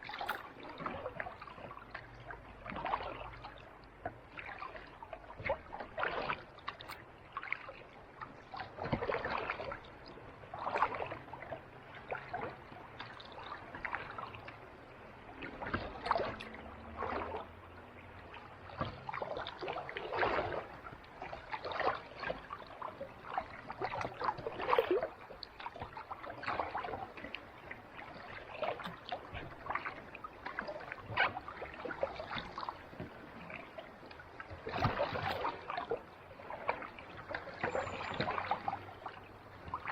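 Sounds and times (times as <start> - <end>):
kayak paddle splashing: 0.0 - 39.9
water lapping around hull: 0.0 - 39.9.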